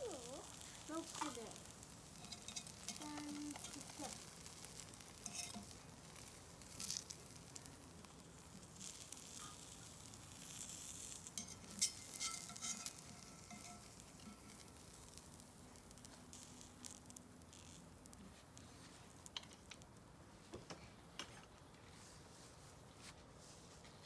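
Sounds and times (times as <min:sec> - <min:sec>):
food sizzling in frying pan: 0:00.0 - 0:20.1
crackles and clicks: 0:00.0 - 0:20.2.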